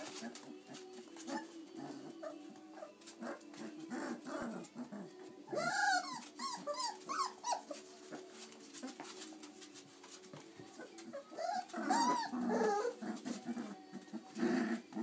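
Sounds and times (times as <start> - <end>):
puppies growling and grunting: 0.0 - 9.2, 10.6 - 15.0
puppies yelping: 1.2 - 9.1, 10.8 - 15.0.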